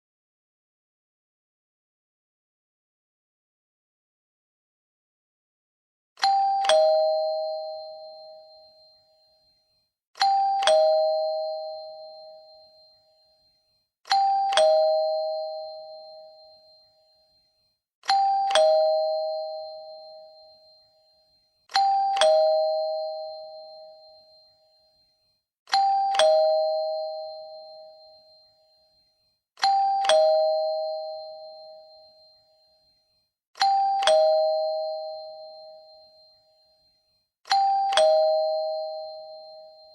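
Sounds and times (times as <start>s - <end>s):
two-note doorbell chime: 6.2s - 39.9s.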